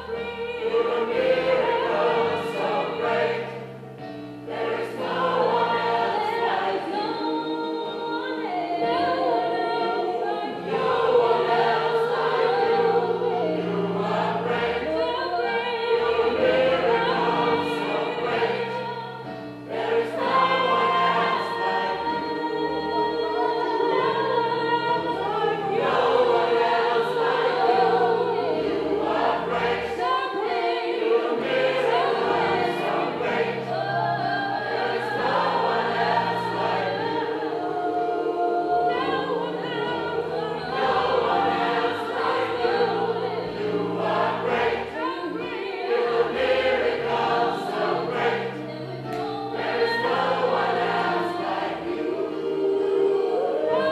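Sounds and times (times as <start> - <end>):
choir singing in harmony: 0.0 - 53.9.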